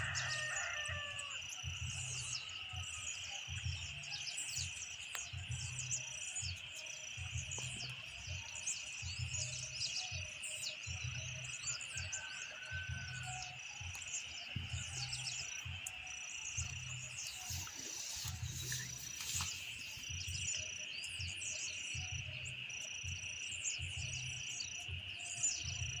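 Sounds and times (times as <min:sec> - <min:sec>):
high insect drone: 0:00.0 - 0:26.0
low pulsing calls: 0:00.0 - 0:26.0.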